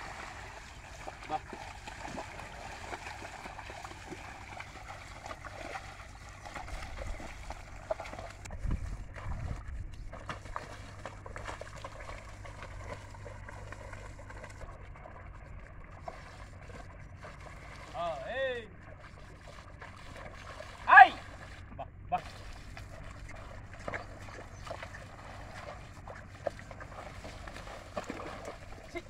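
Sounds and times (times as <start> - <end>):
muddy water sloshing and splashing: 0.0 - 29.0.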